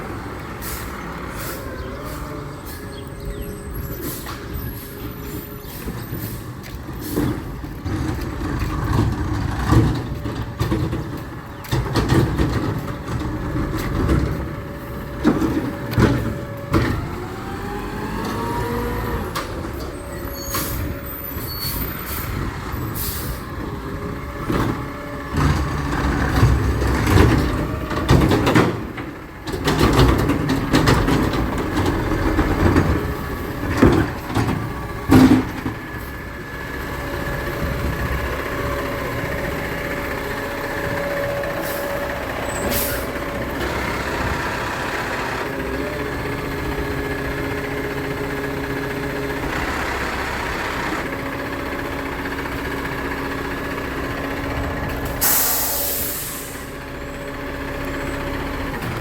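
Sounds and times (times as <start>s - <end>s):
garbage truck engine rumbling: 0.0s - 59.0s.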